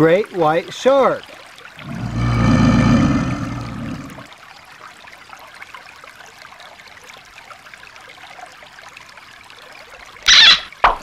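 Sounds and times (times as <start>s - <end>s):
stream trickling over rocks: 0.0s - 10.9s.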